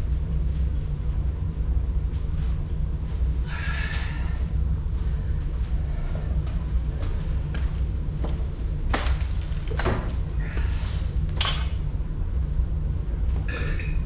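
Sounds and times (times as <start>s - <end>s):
low mechanical rumble: 0.0s - 14.0s.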